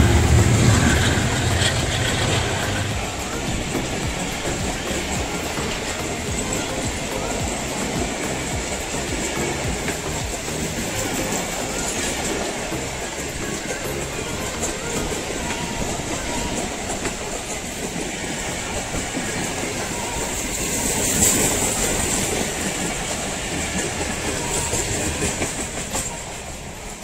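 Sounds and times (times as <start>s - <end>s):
train passing at speed: 0.0s - 27.0s
wheels clicking over rail joints: 0.0s - 27.0s.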